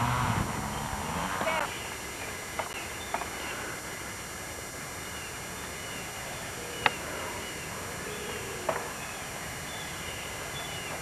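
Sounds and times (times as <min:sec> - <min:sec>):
tape hiss: 0:00.0 - 0:11.0.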